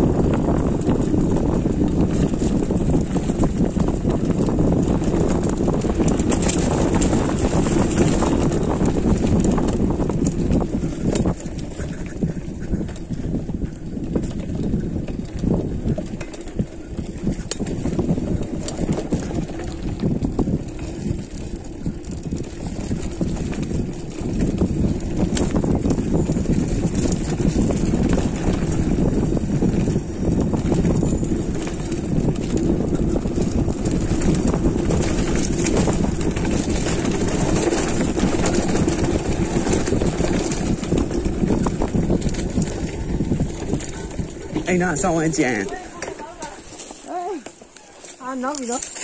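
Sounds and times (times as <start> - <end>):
bike clicks and rattles: 0.0 - 49.0
tyres rumbling on dirt: 0.0 - 49.0
wind buffeting microphone: 0.0 - 49.0.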